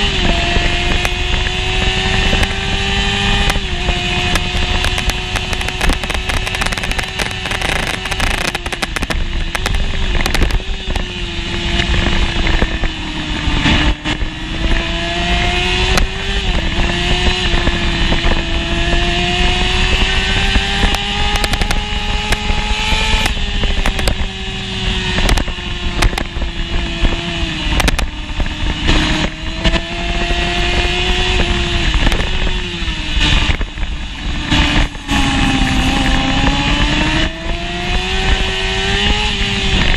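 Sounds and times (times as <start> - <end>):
motorcycle engine revving hard: 0.0 - 39.9
wind rush on microphone: 0.0 - 39.9.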